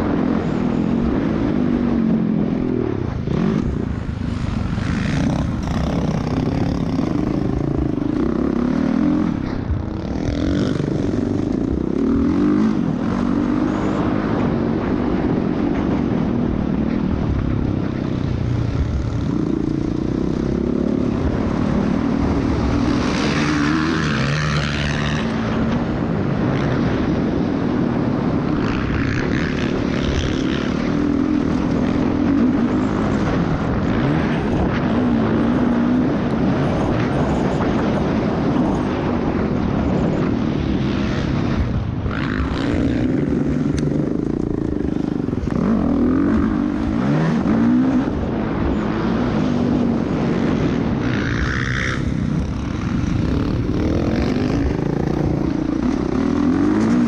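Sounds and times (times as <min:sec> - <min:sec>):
dirt bike engine revving: 0:00.0 - 0:39.4, 0:40.8 - 0:57.0
wind rushing over microphone: 0:00.0 - 0:57.0.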